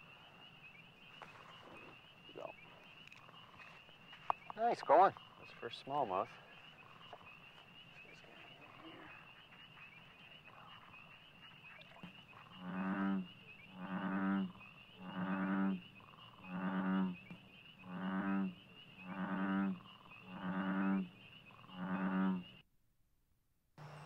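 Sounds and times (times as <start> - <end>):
frog calling deeply: 0.0 - 22.6.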